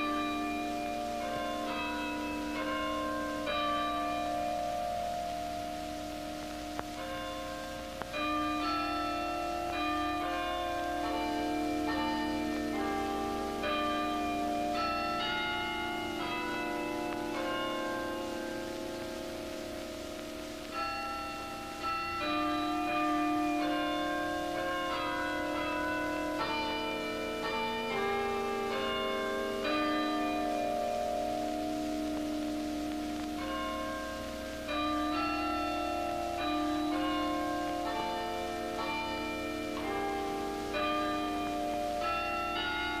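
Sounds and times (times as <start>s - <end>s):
bells ringing notes: 0.0s - 43.0s.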